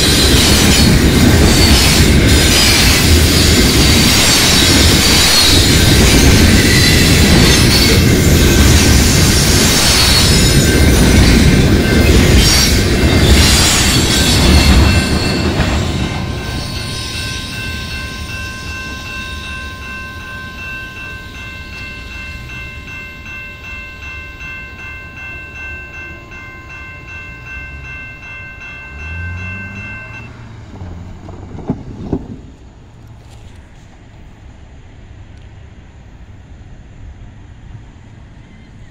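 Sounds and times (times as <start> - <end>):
railroad crossing bell ringing: 0.0 - 31.2
freight train wheels clattering: 0.0 - 34.0.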